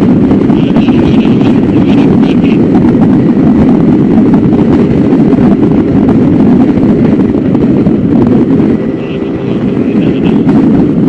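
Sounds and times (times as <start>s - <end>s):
wind rush on microphone: 0.0s - 11.0s
motorcycle engine running: 0.1s - 11.0s.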